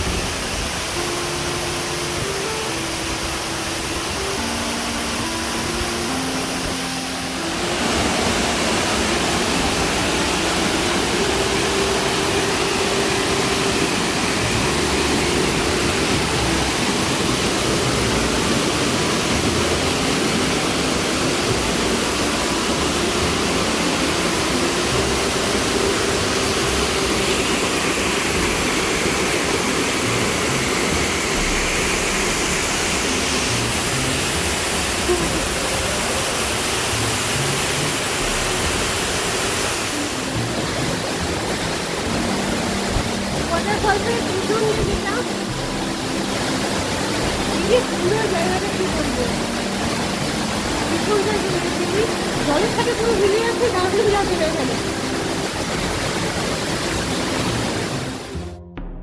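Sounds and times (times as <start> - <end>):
waterfall rushing: 0.0 - 58.4.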